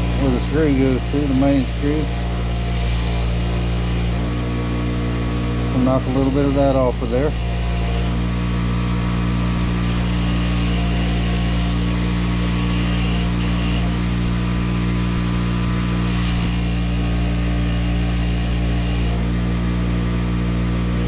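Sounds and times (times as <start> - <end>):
wire wheel scrubbing rust: 0.0 - 19.4
wire wheel motor hum: 0.0 - 21.0.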